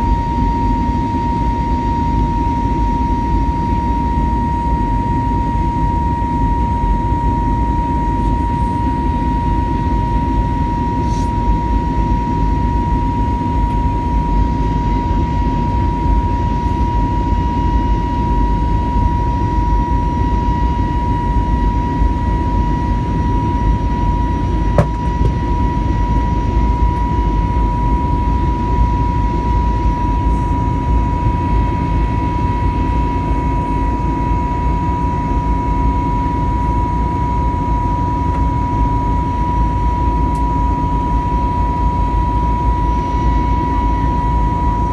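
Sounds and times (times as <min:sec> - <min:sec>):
airliner cabin engine rumble: 0:00.0 - 0:44.9
high engine whine: 0:00.0 - 0:44.9.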